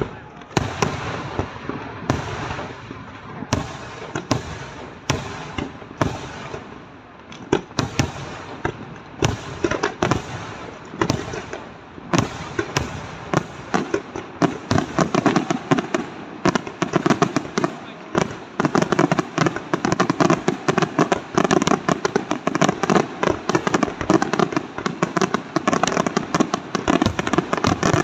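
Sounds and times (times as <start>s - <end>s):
background noise: 0.0s - 28.0s.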